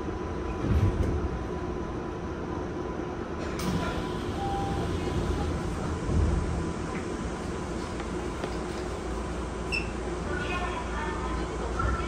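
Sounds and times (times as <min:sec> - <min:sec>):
train equipment hum: 0:00.0 - 0:11.8.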